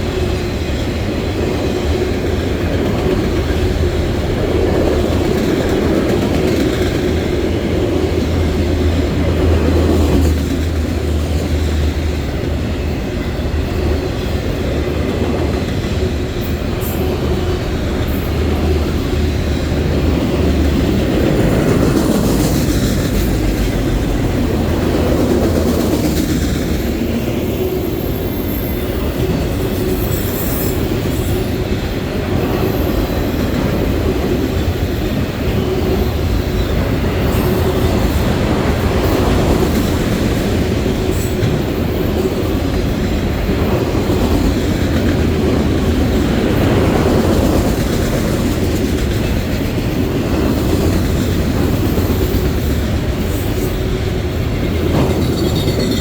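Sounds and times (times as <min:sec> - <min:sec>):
freight train wheels rumbling on track: 0:00.0 - 0:56.0.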